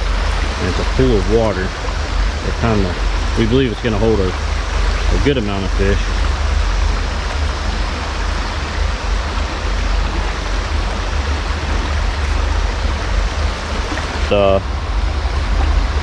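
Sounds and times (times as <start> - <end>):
low rumble: 0.0 - 16.0
water rushing over rapids: 0.0 - 16.0.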